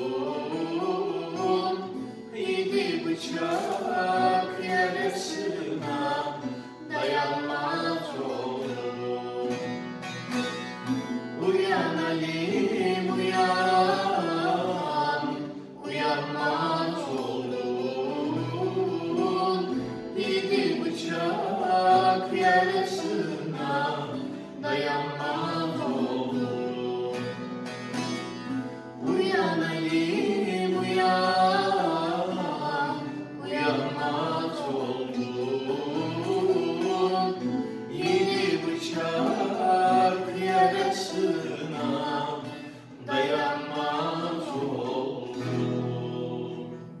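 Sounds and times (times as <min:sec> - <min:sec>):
plucked lute: 0:00.0 - 0:47.0
strummed guitar: 0:00.0 - 0:47.0
two voices singing folk song: 0:00.0 - 0:47.0.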